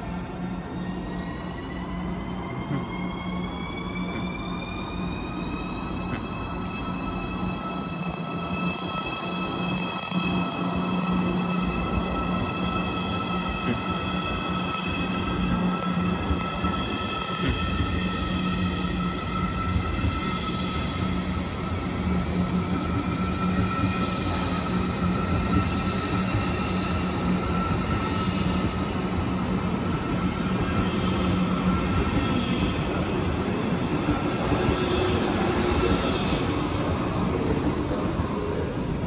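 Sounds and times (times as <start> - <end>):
train rolling rumble: 0.0 - 39.0.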